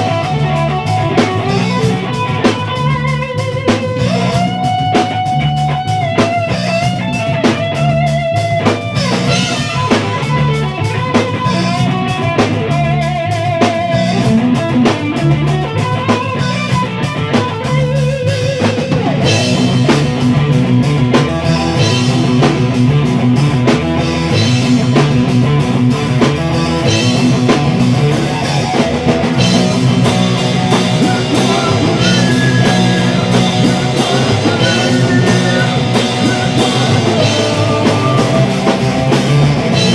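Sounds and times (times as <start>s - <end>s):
electric guitar held notes: 0.0s - 39.9s
rock band playing: 0.0s - 39.9s.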